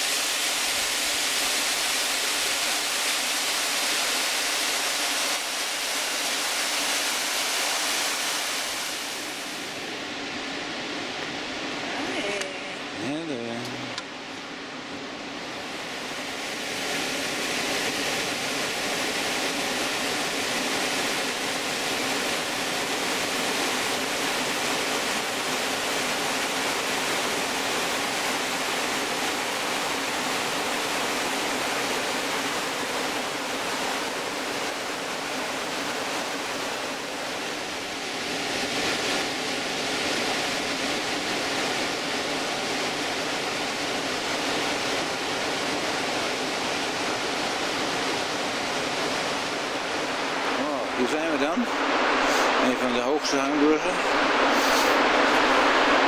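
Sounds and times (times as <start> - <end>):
river rushing over boulders: 0.0 - 56.0.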